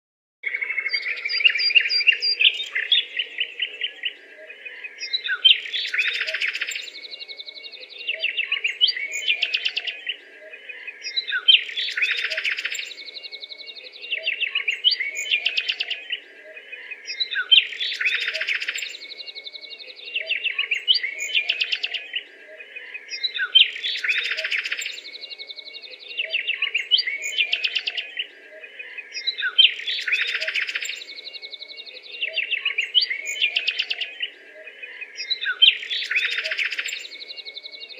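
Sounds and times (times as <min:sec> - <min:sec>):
small birds chirping and twittering: 0:00.4 - 0:37.9.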